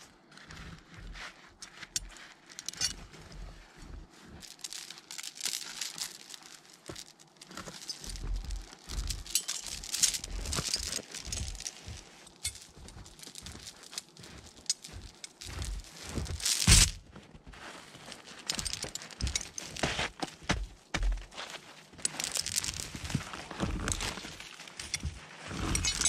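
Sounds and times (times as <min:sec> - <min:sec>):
boots crunching through snow: 0:00.0 - 0:26.0
chain clinking and rattling: 0:01.8 - 0:17.0, 0:17.8 - 0:21.2, 0:21.9 - 0:26.0.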